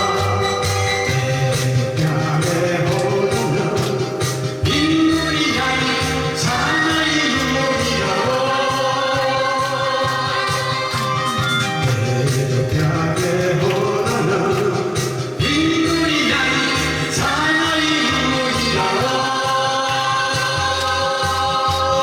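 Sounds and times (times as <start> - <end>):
choir-like singing: 0.0 - 22.0
long held chords over steady beat: 0.0 - 22.0.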